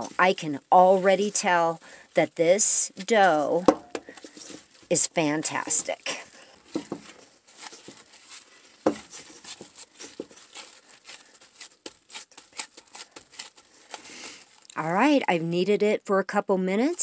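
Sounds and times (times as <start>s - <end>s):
plastic gloves crinkling: 0.0s - 15.2s.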